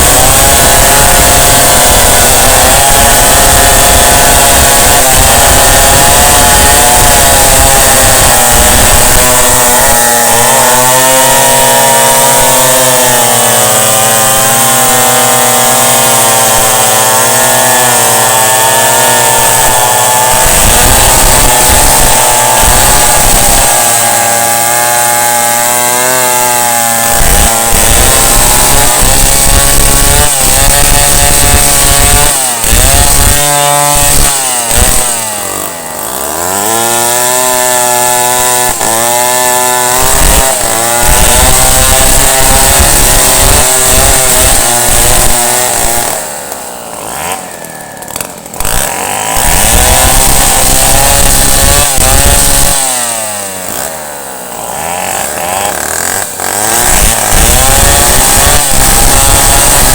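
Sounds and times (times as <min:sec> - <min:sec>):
chainsaw cutting a tree: 0:00.0 - 0:59.9.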